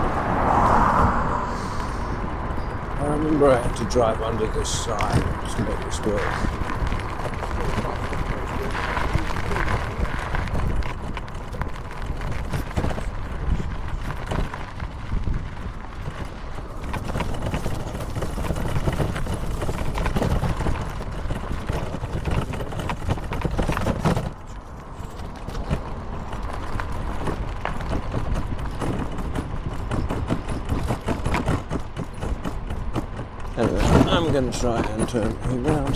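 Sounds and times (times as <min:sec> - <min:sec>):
vehicle rumbling on rough path: 0:00.0 - 0:35.9
wind buffeting microphone: 0:00.0 - 0:35.9.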